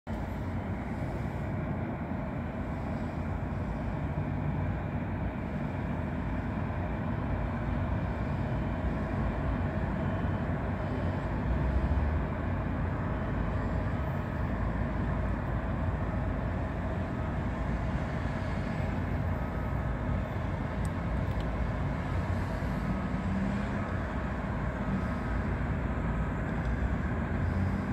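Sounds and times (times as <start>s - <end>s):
distant jet engines idling: 0.1s - 27.9s.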